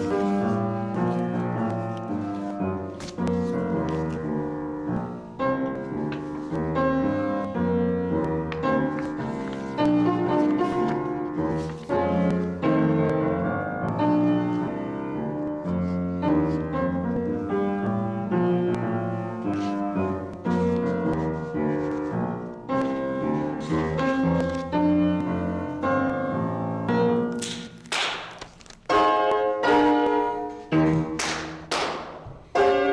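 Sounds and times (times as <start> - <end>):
slow solo piano: 0.0 - 32.9.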